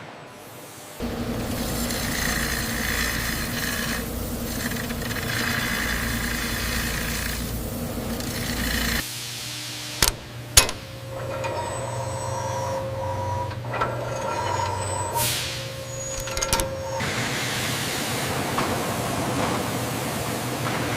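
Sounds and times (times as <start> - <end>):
machinery humming and rushing: 1.0 - 20.9.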